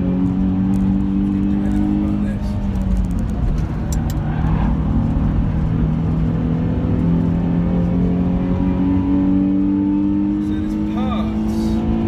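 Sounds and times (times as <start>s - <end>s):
car engine pulling: 0.0s - 12.0s
road and tyre rumble: 0.0s - 12.0s.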